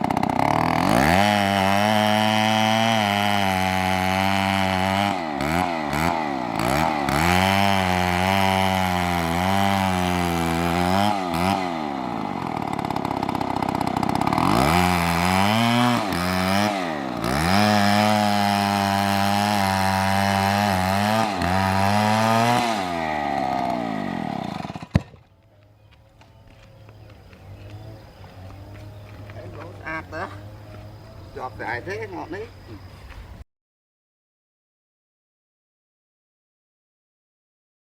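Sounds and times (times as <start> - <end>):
chainsaw cutting wood: 0.0 - 32.9.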